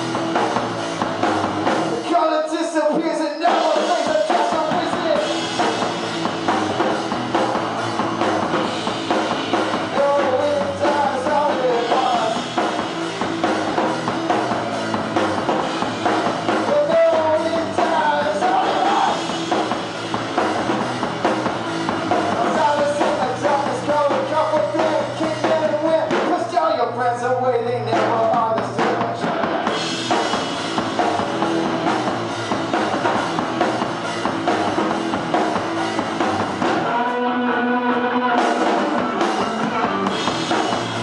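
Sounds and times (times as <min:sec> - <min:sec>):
electric guitar: 0:00.0 - 0:02.1, 0:02.9 - 0:41.0
drum kit playing: 0:00.0 - 0:41.0.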